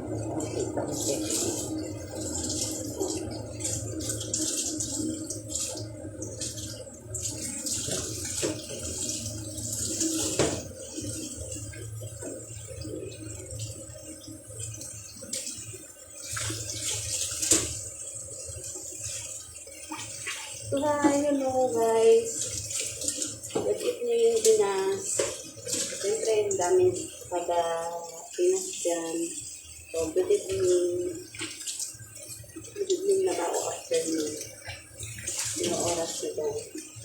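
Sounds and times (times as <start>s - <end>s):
tap water running and splashing: 0.0s - 37.0s.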